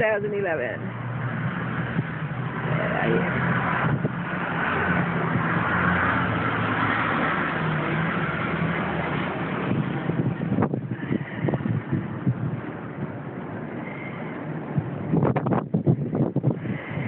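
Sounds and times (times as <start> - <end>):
low engine-like hum: 0.0 - 17.0
wind roaring on microphone: 0.0 - 17.0.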